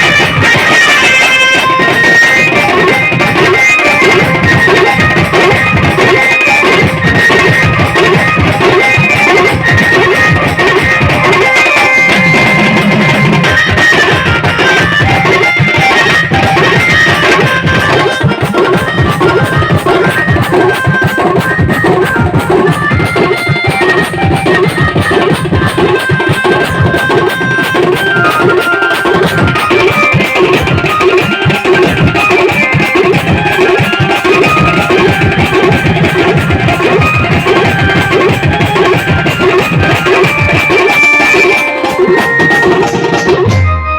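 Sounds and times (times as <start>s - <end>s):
fast drum rhythm: 0.0s - 43.7s
band playing loud music: 0.0s - 43.9s
high melody line: 0.0s - 43.9s.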